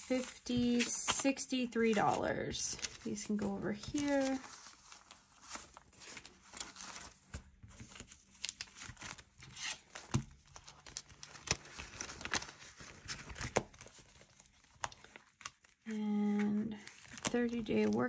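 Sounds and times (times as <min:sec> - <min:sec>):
paper banknotes rustling: 0:00.0 - 0:18.0.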